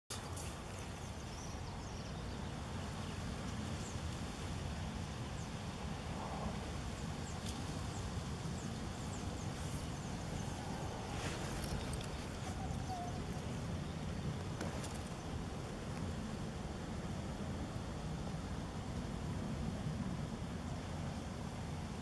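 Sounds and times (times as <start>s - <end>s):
low rumble and hiss: 0.1s - 22.0s.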